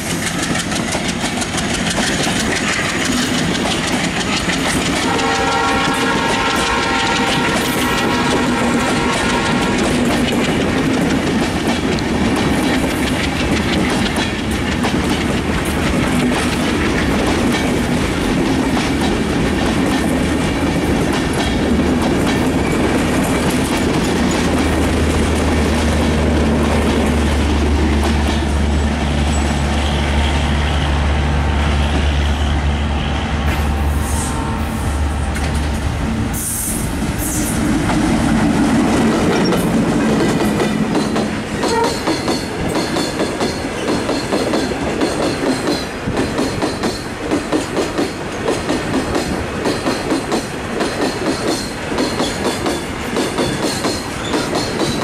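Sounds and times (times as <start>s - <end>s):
diesel locomotive engine droning: 0.0s - 55.0s
train wheels clickety-clack: 0.0s - 55.0s.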